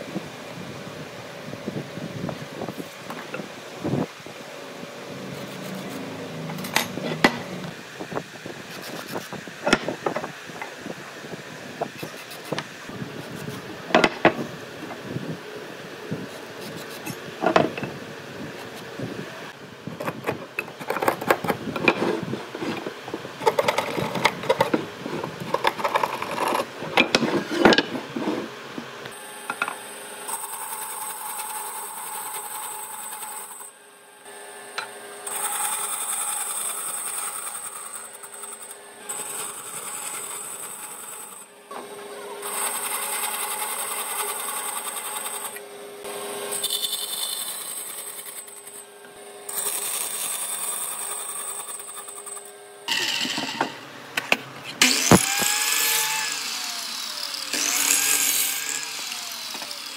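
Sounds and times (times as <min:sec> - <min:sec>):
power tool on wood: 0:05.1 - 0:15.3, 0:20.0 - 0:59.9.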